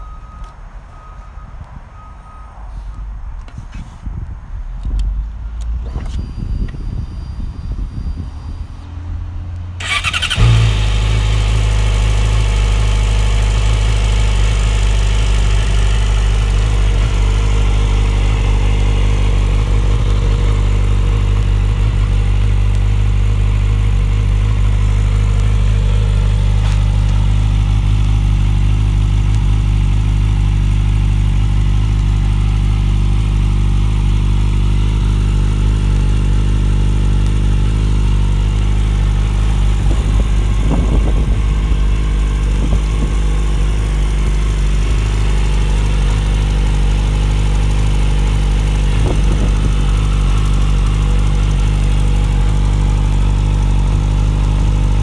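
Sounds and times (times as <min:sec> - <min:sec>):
motorcycle engine idling: 0:09.8 - 0:55.0.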